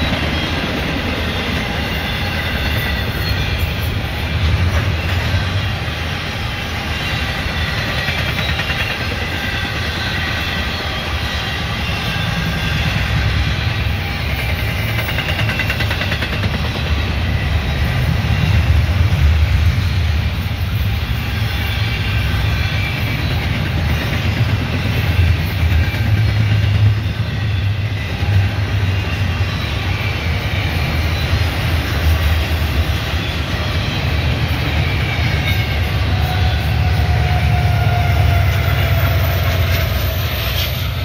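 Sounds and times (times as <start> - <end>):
diesel locomotives passing: 0.0 - 41.0
faint high wheel squeals: 0.0 - 41.0
train wheels on rails: 0.0 - 41.0.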